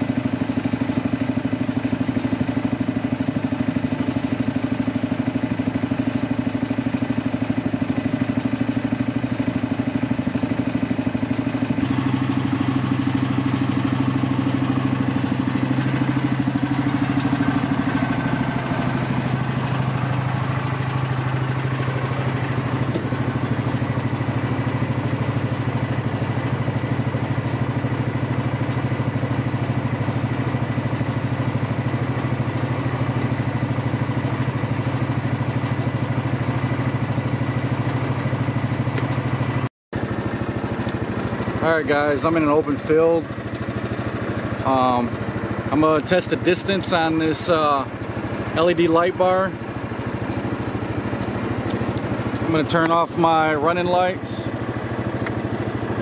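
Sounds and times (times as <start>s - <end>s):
golf cart engine idling: 0.0s - 56.0s.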